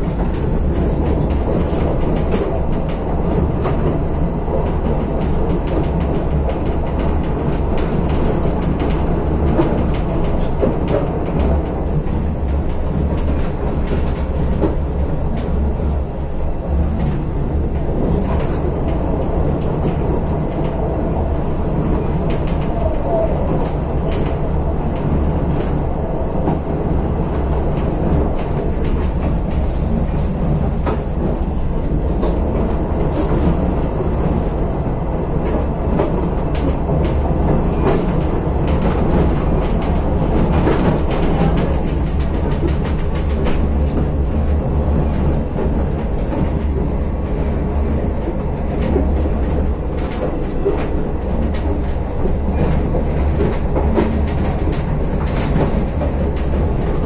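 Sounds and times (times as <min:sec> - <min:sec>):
train rumble inside carriage: 0:00.0 - 0:57.0
wheels clicking on rails: 0:00.0 - 0:57.0.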